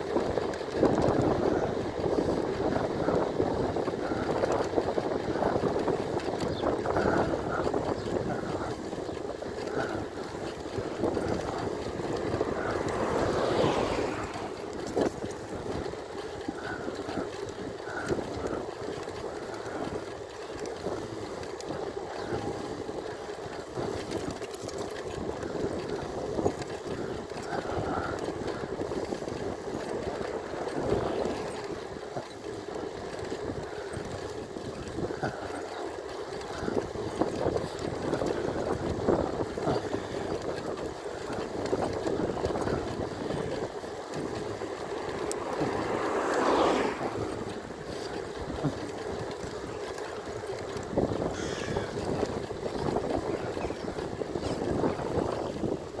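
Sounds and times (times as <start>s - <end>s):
bike tyre noise on pavement: 0.0s - 56.0s
wind rush: 0.2s - 20.1s, 23.7s - 35.6s, 36.4s - 56.0s.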